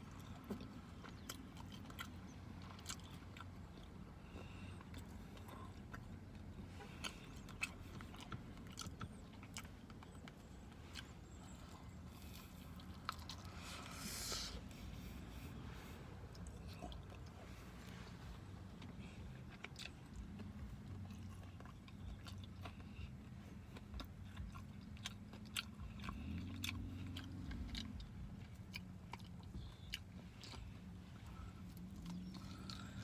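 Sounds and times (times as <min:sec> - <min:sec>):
person chewing chicken wings: 0:00.0 - 0:33.0
steady low hum: 0:00.0 - 0:33.0.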